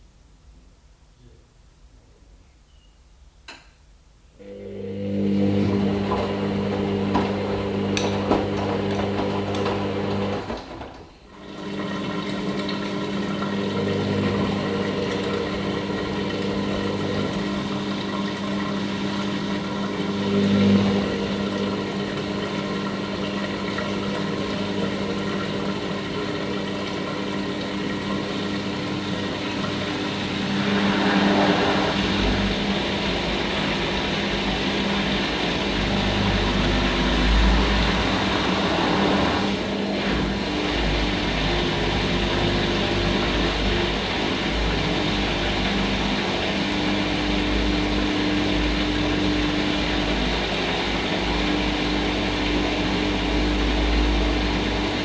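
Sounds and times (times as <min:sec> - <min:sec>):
washing machine motor hum: 0:04.4 - 0:55.0
washing machine drum rumble: 0:05.4 - 0:55.0.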